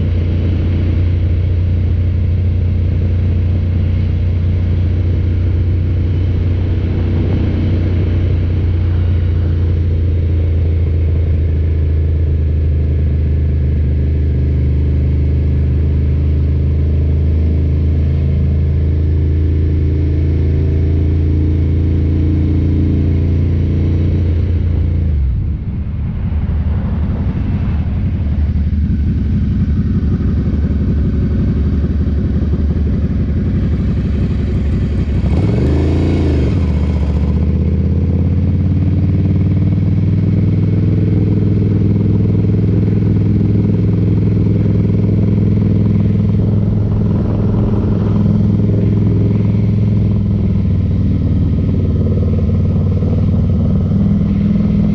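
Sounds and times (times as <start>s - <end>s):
motorcycle engine: 0.0s - 25.5s, 26.9s - 54.9s.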